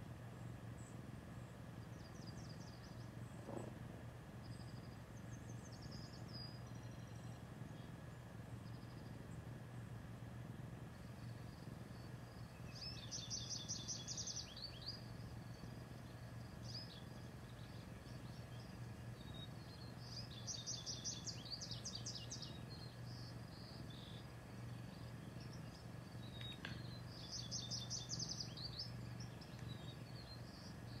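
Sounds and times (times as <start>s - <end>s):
faint low hum: 0.0s - 31.0s
songbird chirping: 0.2s - 31.0s.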